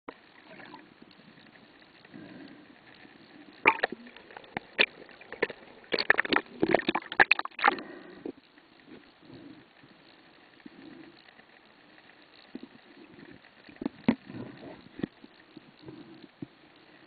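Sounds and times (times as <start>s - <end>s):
muffled underwater hiss: 0.1s - 17.0s.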